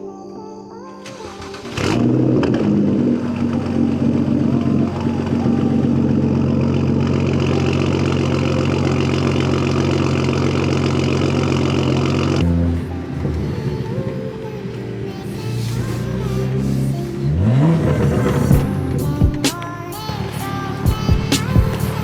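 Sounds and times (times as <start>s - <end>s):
car engine starting and idling: 1.0s - 22.0s.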